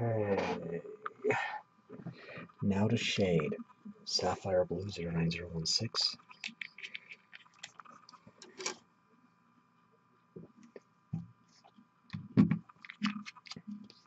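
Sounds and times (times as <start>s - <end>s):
faint steady whine: 0.0s - 14.0s.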